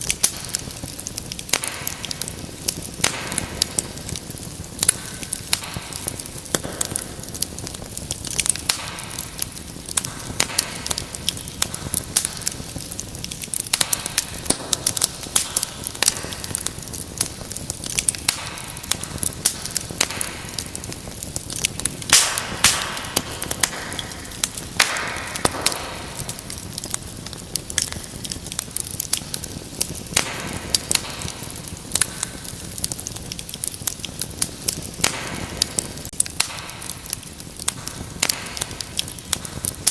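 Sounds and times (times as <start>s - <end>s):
fire hiss: 0.0s - 39.9s
wood fire crackling and popping: 0.0s - 39.9s.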